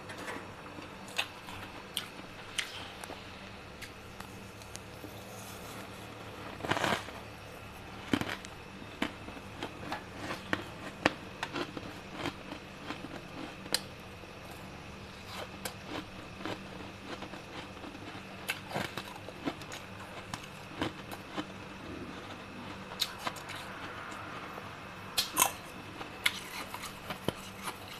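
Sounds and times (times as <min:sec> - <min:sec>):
freezer frost crunching: 0:00.0 - 0:13.9, 0:14.5 - 0:24.6, 0:25.2 - 0:27.9
steady hum: 0:00.0 - 0:27.9.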